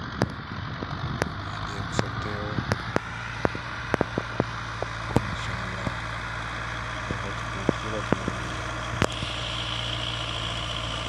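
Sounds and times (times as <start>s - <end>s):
distant tractor engine running: 0.0s - 11.0s.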